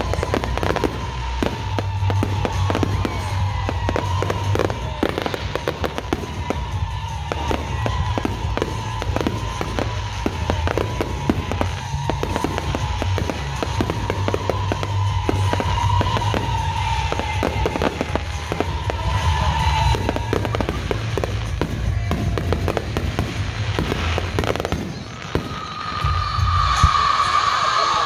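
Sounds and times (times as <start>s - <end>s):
fireworks bangs and crackles: 0.0s - 28.0s
music: 0.0s - 28.0s.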